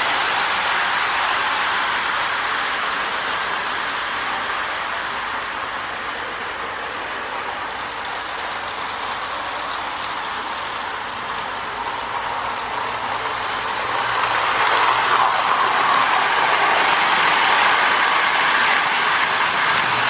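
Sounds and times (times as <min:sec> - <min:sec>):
toy train whirring on metal track: 0:00.0 - 0:20.0.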